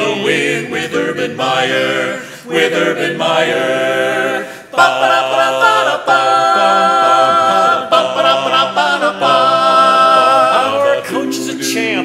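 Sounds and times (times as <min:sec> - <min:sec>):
male quartet singing a cappella: 0:00.0 - 0:12.0.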